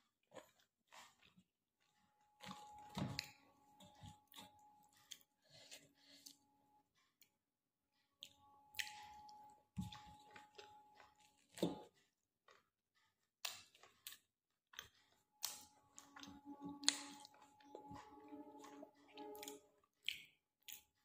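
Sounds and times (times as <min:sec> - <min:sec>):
person chewing food: 0:00.0 - 0:07.3, 0:08.1 - 0:21.0.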